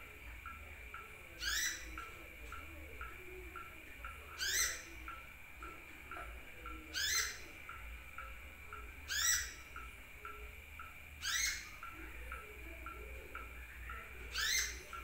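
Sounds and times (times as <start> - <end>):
faint regular ticking: 0.0 - 15.0
sunbird chirping: 0.0 - 15.0.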